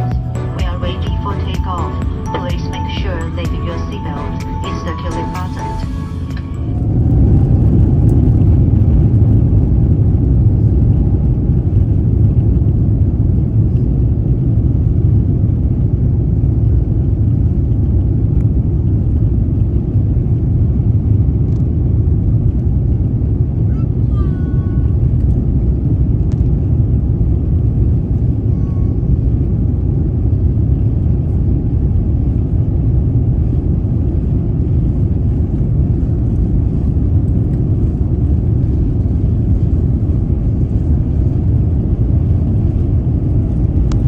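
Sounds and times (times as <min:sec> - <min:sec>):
airplane cabin noise: 0:00.0 - 0:44.0
jet engines: 0:00.0 - 0:44.0.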